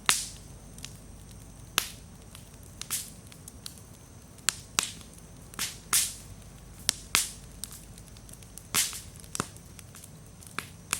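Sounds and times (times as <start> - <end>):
sharp pops of burning wood: 0.0 - 10.9
wood bonfire crackling: 0.0 - 10.9.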